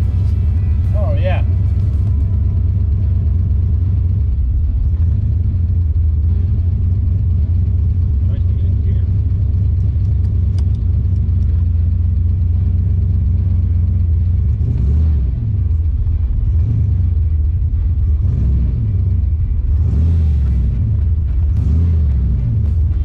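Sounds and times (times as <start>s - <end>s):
car engine deep rumble: 0.0s - 23.0s.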